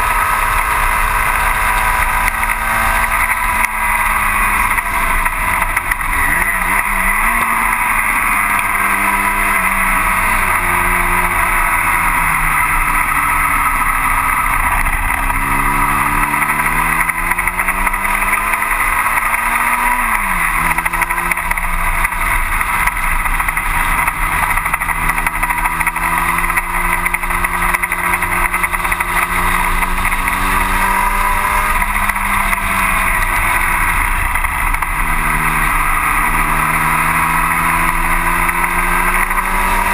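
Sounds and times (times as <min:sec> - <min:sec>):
race car engine at high revs: 0:00.0 - 0:39.9
steady rushing noise: 0:00.0 - 0:39.9.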